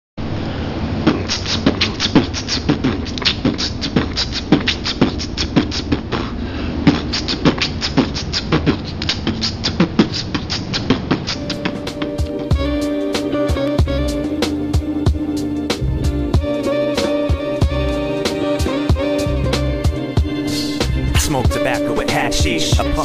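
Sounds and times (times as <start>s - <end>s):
person beatboxing: 1.0s - 23.0s.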